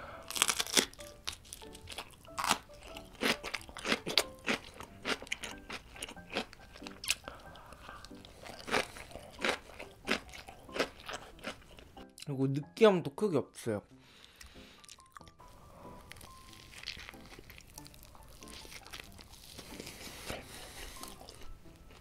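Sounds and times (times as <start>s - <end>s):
crunching and chewing: 0.3s - 12.0s, 14.3s - 22.0s.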